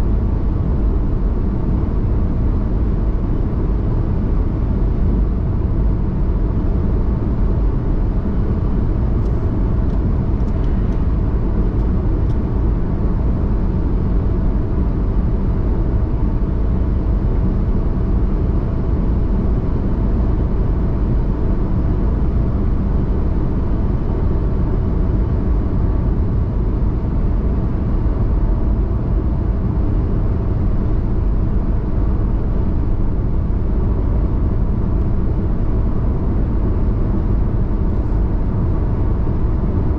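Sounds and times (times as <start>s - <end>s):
road and wind noise in car: 0.0s - 39.9s.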